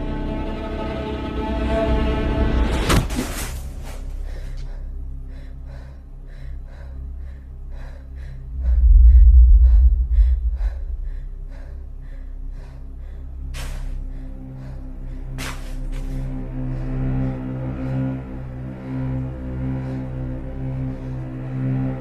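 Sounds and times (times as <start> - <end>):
deep low rumble: 3.6 - 22.0.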